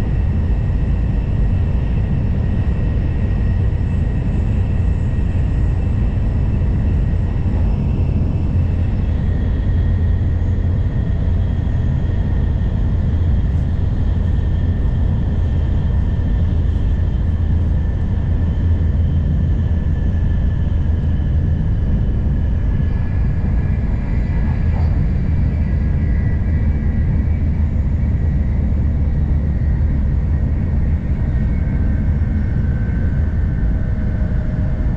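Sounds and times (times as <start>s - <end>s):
low train rumble: 0.0s - 34.9s.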